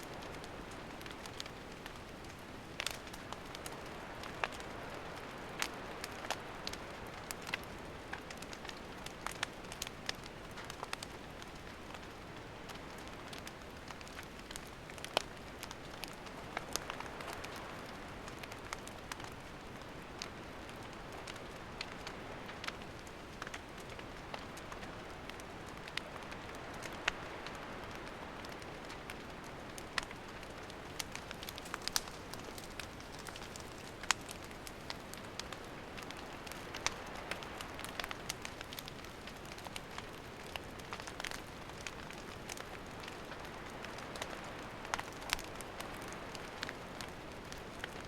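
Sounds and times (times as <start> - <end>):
campfire hissing: 0.0 - 48.0
firewood crackling and popping: 0.0 - 48.0.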